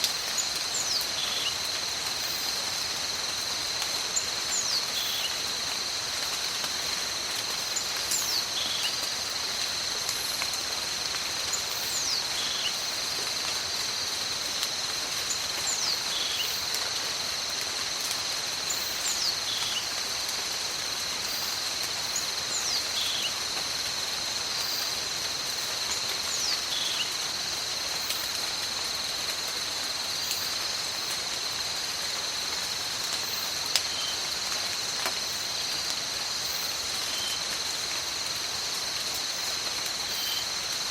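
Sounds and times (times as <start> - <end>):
insect drone: 0.0 - 40.9
rain hissing: 0.0 - 40.9.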